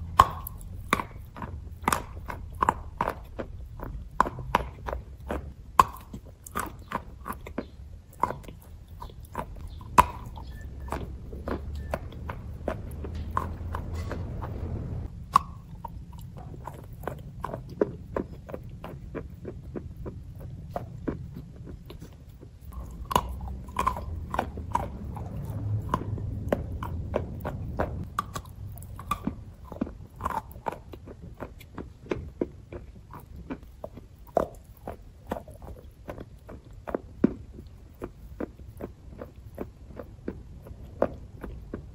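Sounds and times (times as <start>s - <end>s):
chalk being chewed: 0.0s - 41.9s.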